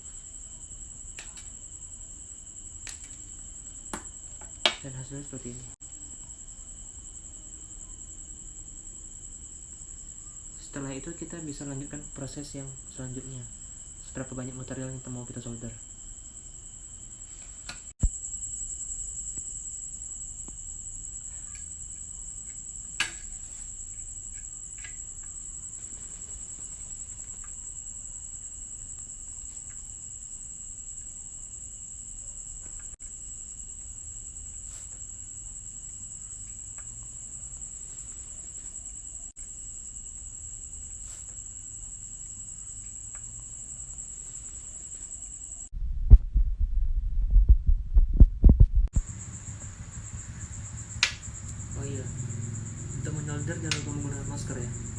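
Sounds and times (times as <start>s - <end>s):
crickets trilling: 0.0s - 45.7s, 49.0s - 54.9s.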